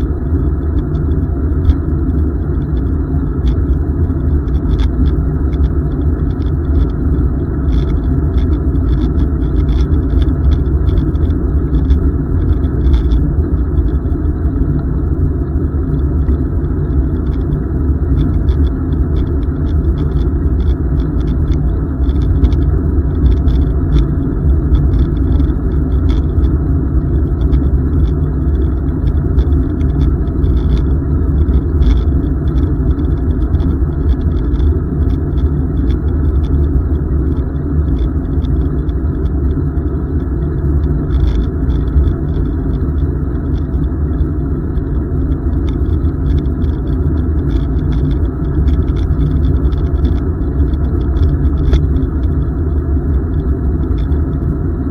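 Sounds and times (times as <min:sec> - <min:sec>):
bicycle road noise: 0:00.0 - 0:54.9
wind on microphone: 0:00.0 - 0:54.9.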